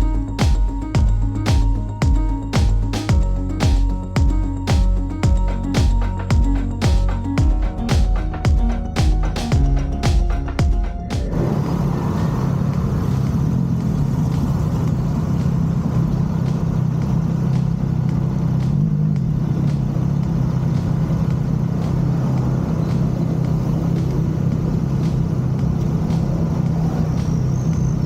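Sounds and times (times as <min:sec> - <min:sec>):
motorcycle engine droning: 0:00.0 - 0:28.0
road and wind noise: 0:00.0 - 0:28.0.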